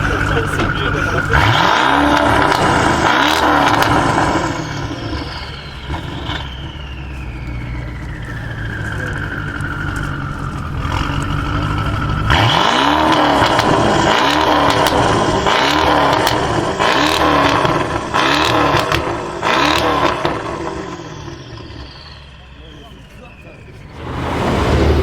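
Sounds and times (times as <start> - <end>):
car engine revving: 0.0 - 25.0
exhaust crackles and pops: 0.0 - 25.0.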